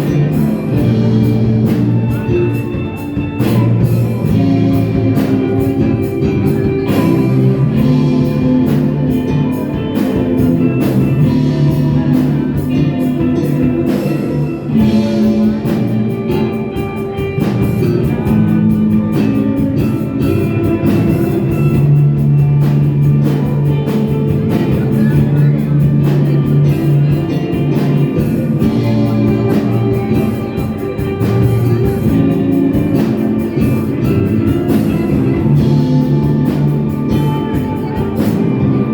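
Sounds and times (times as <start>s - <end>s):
drums beating: 0.0s - 38.9s
rock band playing: 0.0s - 38.9s.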